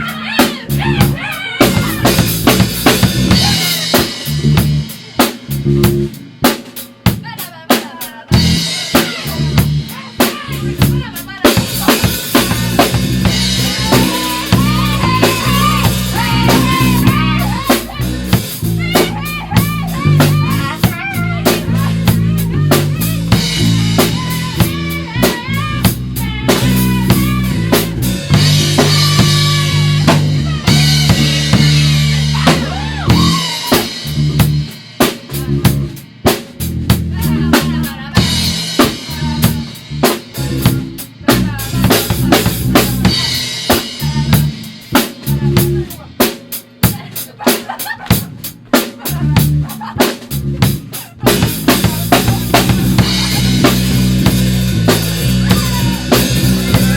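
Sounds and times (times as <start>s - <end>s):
drum kit: 0.0s - 56.9s
rock band playing: 0.0s - 56.9s.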